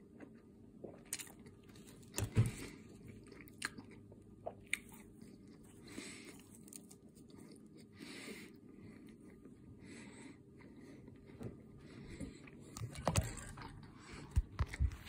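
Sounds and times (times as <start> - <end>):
chewing and crunching: 0.0 - 9.5, 12.2 - 15.0.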